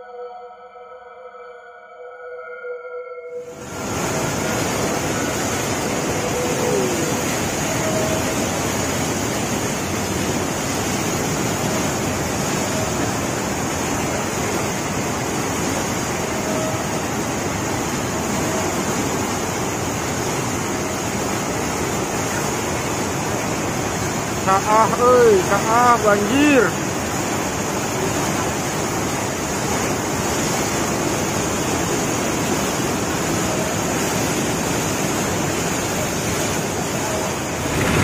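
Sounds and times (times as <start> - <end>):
flooded river rushing: 3.5 - 38.0.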